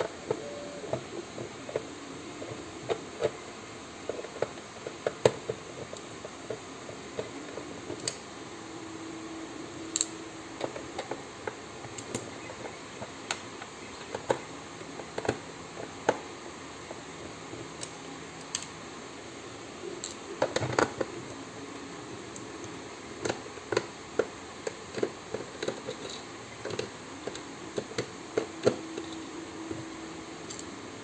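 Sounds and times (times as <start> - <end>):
plastic parts clicking and tapping: 0.0 - 3.4, 4.0 - 8.2, 9.8 - 18.8, 20.0 - 21.3, 22.3 - 30.8.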